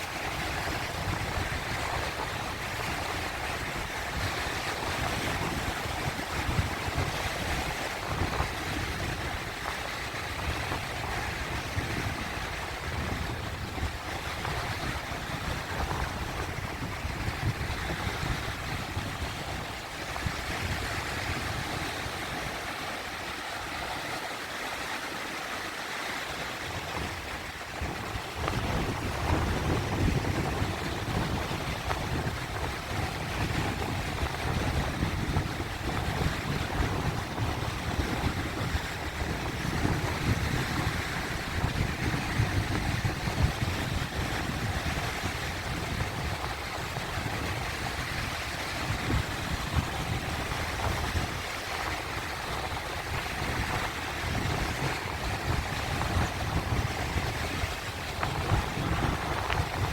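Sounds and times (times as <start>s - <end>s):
waves washing over rocks: 0.0s - 59.9s.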